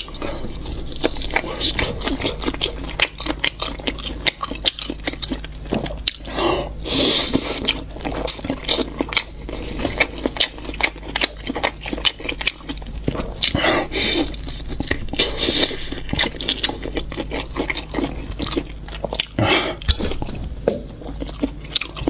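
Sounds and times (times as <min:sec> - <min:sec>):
chewing crunchy fried food: 0:00.0 - 0:22.0.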